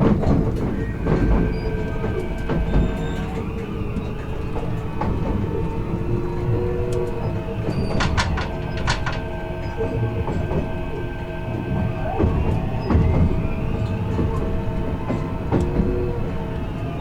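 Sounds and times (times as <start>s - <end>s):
electric train motor whine: 0.0s - 17.0s
train wheels rumbling: 0.0s - 17.0s.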